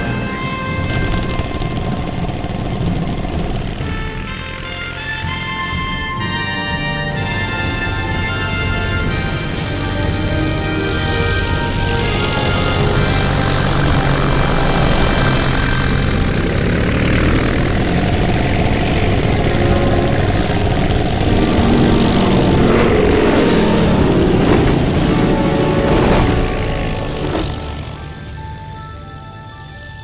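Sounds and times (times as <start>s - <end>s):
propeller plane engines roaring: 0.0s - 30.0s.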